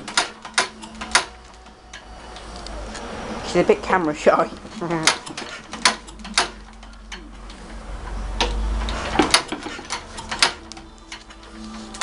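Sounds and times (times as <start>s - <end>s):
stationary engine clacks and knocks: 0.0s - 2.1s, 3.6s - 11.4s
low engine rumble: 0.0s - 12.0s.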